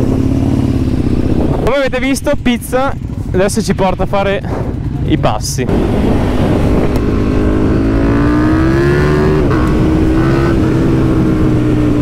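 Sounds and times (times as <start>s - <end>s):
wind rush on microphone: 0.0s - 2.9s, 3.8s - 12.0s
motorcycle engine accelerating: 0.0s - 12.0s.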